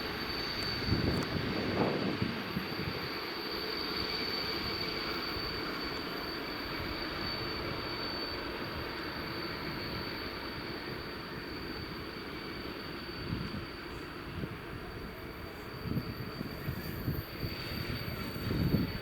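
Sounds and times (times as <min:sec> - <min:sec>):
low train rumble: 0:00.0 - 0:19.0
train wheel squeal: 0:00.0 - 0:19.0.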